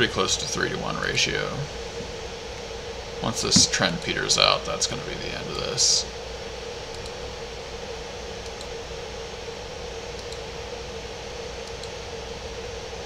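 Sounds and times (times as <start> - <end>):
mid-pitched hum: 0.0 - 13.0
room noise hiss: 0.0 - 13.0.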